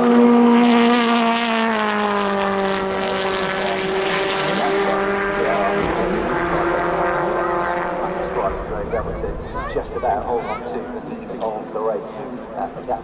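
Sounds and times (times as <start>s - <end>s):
racing car engines at full throttle: 0.0s - 13.0s.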